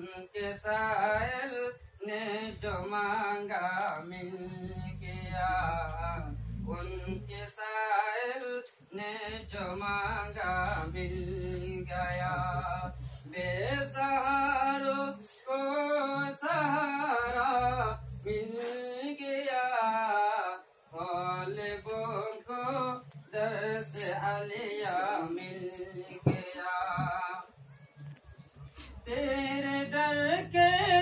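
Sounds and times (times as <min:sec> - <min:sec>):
person singing devotional song: 0:00.0 - 0:31.0.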